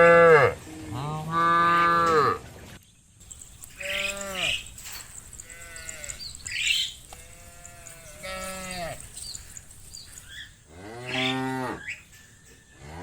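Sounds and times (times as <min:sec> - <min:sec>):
cows mooing: 0:00.0 - 0:02.4, 0:03.6 - 0:13.0.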